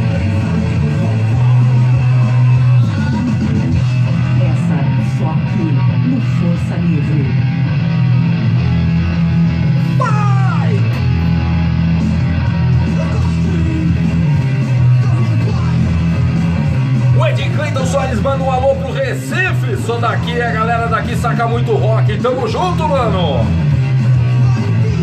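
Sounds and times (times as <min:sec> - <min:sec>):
bass guitar: 0:00.0 - 0:25.0
electric guitar: 0:00.0 - 0:25.0.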